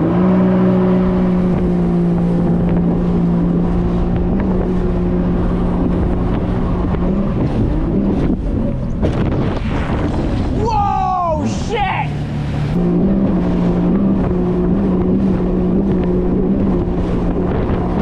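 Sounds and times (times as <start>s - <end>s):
wind on microphone: 0.0s - 11.5s, 12.3s - 18.0s
jet ski engine running: 0.0s - 18.0s.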